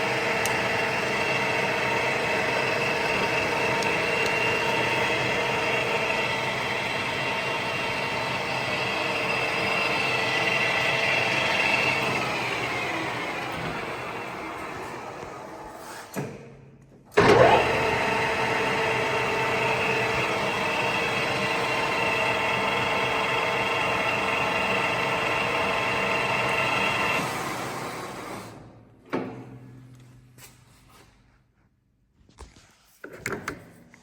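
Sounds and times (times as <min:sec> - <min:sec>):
lathe gears whining: 0:00.0 - 0:16.1, 0:17.2 - 0:28.5
lathe starting with click: 0:00.0 - 0:16.4, 0:17.1 - 0:29.6.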